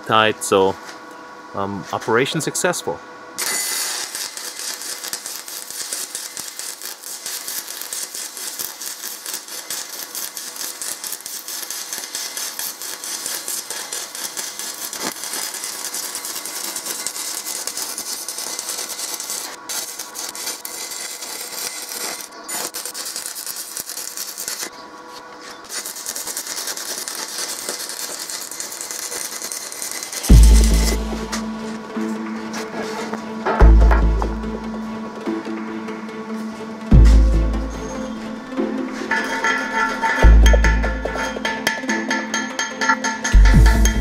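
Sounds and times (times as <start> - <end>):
welding arc crackling: 3.4 - 34.7, 39.0 - 44.0.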